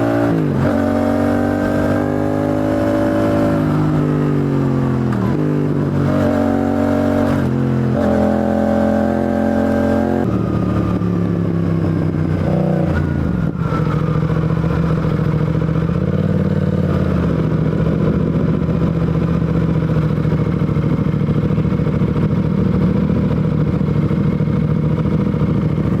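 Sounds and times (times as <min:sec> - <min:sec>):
motorcycle engine and exhaust: 0:00.0 - 0:26.0.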